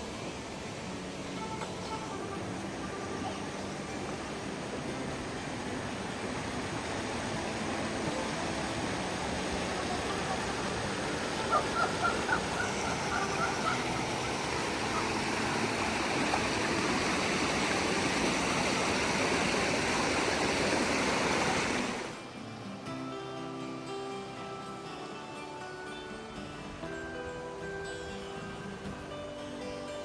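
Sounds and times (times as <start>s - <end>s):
forest stream rushing: 0.0s - 30.0s.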